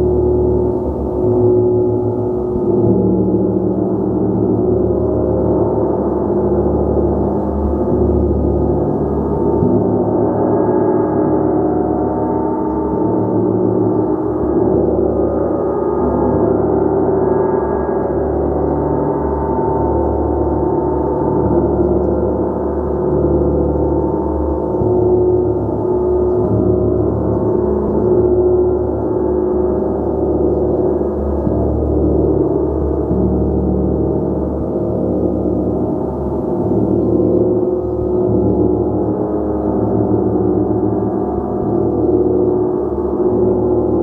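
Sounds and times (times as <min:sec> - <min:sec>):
gong ringing continuously: 0:00.0 - 0:44.0.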